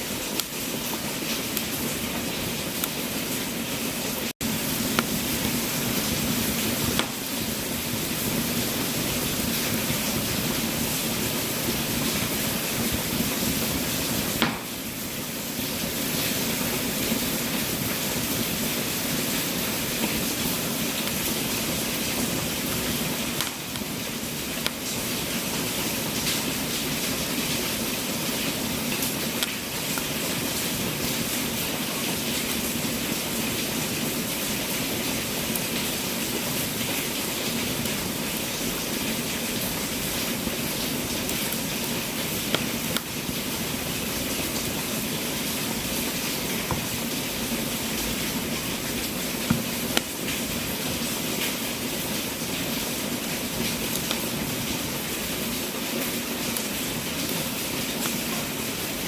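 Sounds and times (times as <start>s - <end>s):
fire popping: 0.0s - 58.9s
wood fire crackling: 0.0s - 59.0s.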